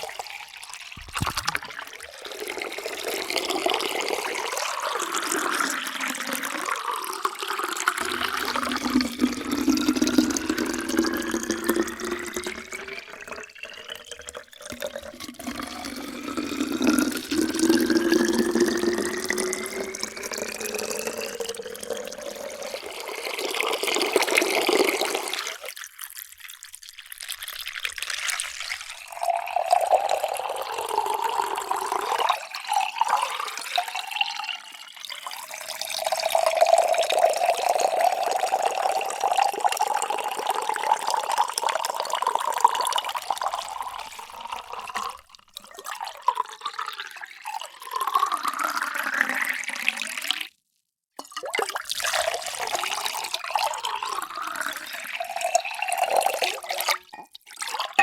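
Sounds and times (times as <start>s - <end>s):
water pouring into a vessel: 0.0s - 50.6s, 51.2s - 58.0s.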